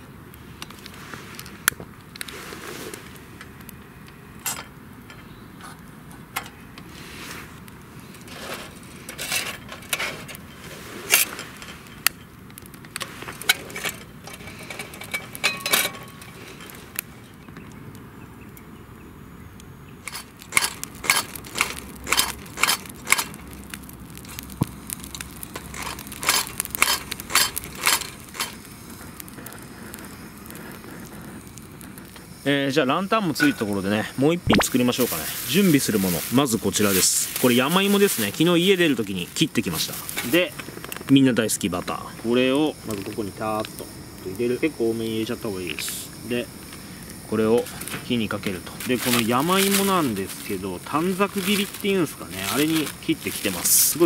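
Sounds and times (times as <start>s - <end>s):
wood fire crackling: 0.0s - 54.0s
sharp snaps and pops: 0.3s - 6.9s, 11.1s - 15.4s, 16.1s - 18.7s, 19.6s - 54.0s.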